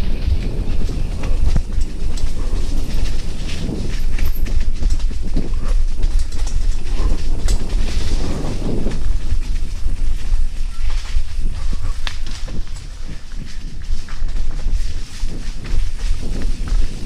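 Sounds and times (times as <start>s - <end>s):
bike rattling and clattering: 0.0s - 17.0s
bike tyres rolling over roots: 0.0s - 17.0s
deep steady rumble: 0.0s - 17.0s.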